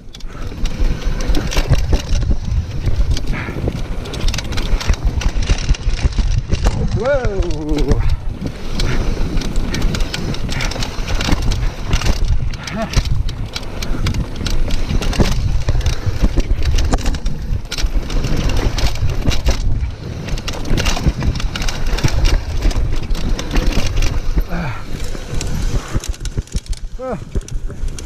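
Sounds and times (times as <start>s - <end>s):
bike rattling and knocking: 0.0s - 28.0s
bike tyres crunching on stones: 0.0s - 28.0s.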